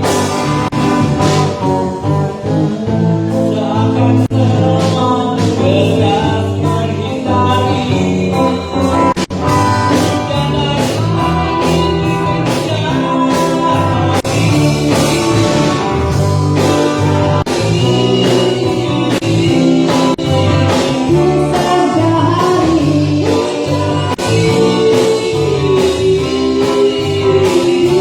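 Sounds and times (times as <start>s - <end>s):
bass guitar: 0.0s - 28.0s
drums: 0.0s - 28.0s
electric guitar: 0.0s - 28.0s
person singing: 0.0s - 28.0s.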